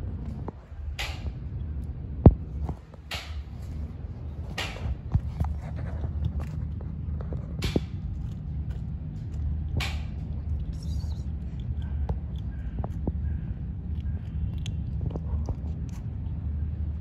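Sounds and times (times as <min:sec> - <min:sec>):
kitten crunching dry food: 0:00.0 - 0:17.0
steady low rumble: 0:00.0 - 0:17.0.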